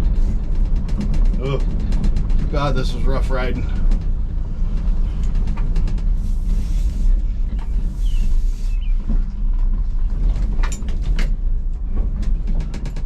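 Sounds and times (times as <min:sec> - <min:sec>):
body rattles and knocks: 0:00.0 - 0:13.0
pickup truck engine rumble: 0:00.0 - 0:13.0.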